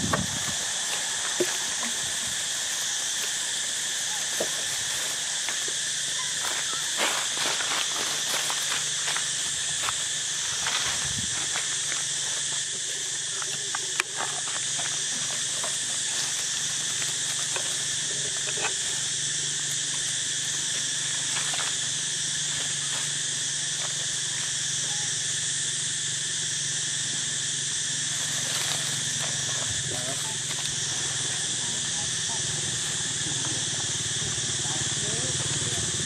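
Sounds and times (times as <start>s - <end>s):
high-pitched insect chorus: 0.0s - 36.0s
dry leaves crackling: 0.3s - 24.3s, 28.0s - 36.0s.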